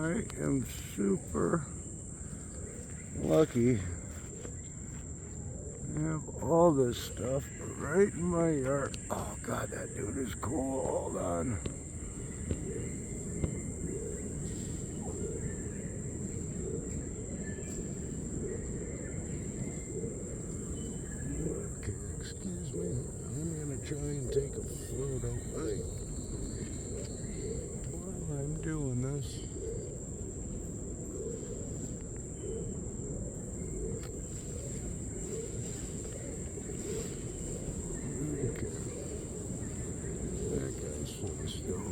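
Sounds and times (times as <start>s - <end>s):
faint bird chirps: 0.0s - 41.9s
high thin insect drone: 0.0s - 41.9s
low rushing background noise: 0.0s - 41.9s
steady low rumble: 0.0s - 41.9s.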